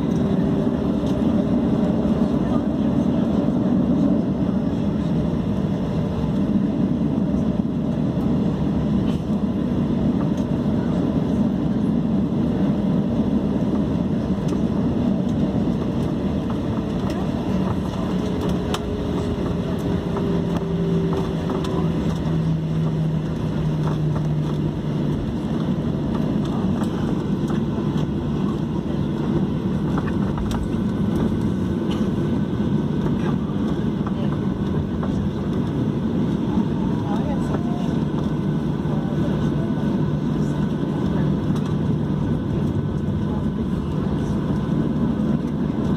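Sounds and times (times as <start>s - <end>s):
jet engines roaring in cabin: 0.0s - 45.9s
low engine hum: 0.0s - 45.9s.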